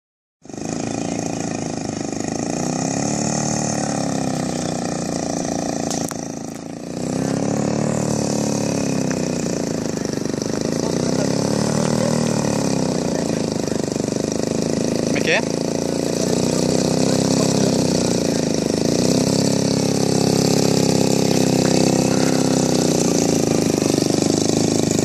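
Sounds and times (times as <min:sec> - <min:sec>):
model airplane engine running: 0:00.4 - 0:25.0.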